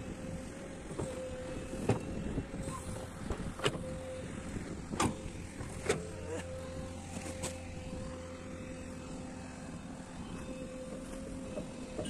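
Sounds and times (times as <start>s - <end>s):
excavator engine humming: 0.0s - 12.0s.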